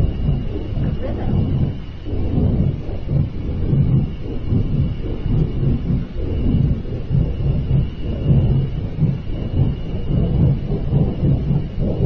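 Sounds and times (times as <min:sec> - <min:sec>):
faint high whine: 0:00.0 - 0:12.0
low rumbling roar: 0:00.0 - 0:12.0.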